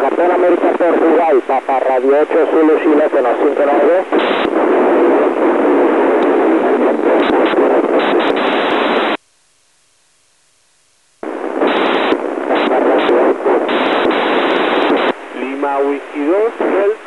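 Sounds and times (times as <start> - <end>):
radio hiss: 0.0 - 9.2, 11.2 - 17.0.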